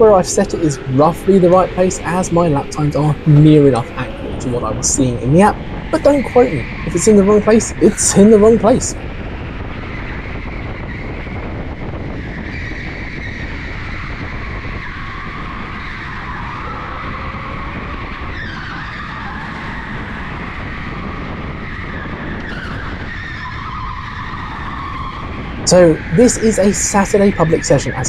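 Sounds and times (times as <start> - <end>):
electric go-kart whine: 0.1 - 28.0.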